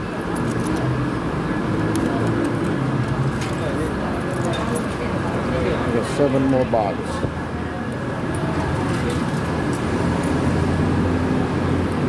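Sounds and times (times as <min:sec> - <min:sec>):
station concourse rumble: 0:00.0 - 0:12.0.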